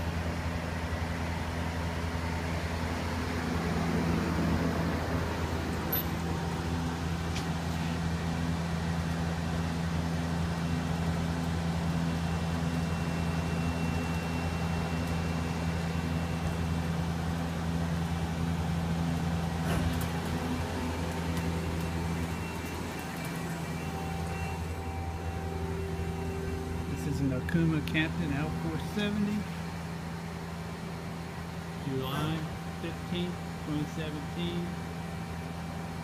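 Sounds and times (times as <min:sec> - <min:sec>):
lathe humming: 0:01.1 - 0:35.8.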